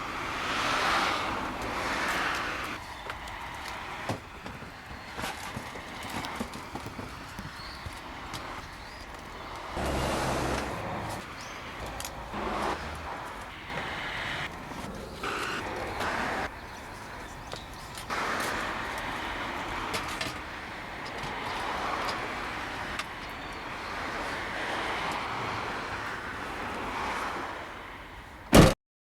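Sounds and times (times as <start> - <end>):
car road and engine noise: 0.0 - 28.8.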